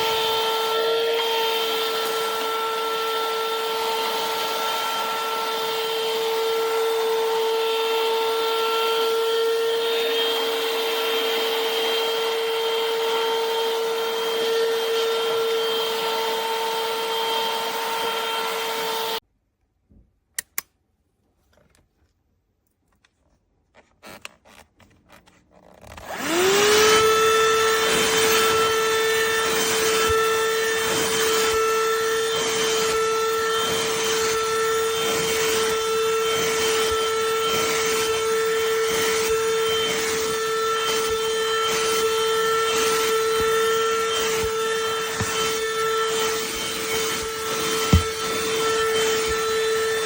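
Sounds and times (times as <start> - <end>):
handheld vacuum motor running: 0.0 - 19.2, 25.6 - 50.0.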